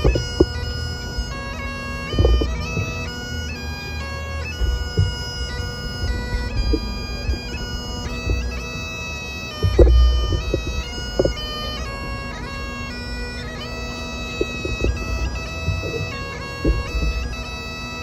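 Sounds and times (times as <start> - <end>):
bagpipes playing slow melody: 0.0 - 18.0.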